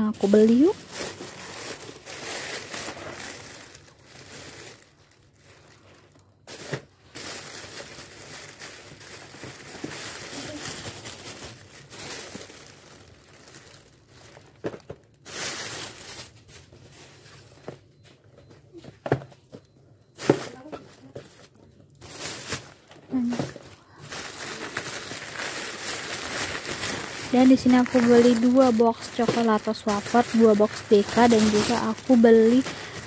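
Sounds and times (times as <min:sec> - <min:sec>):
plastic bag rustling: 0:00.0 - 0:17.6, 0:20.2 - 0:33.0.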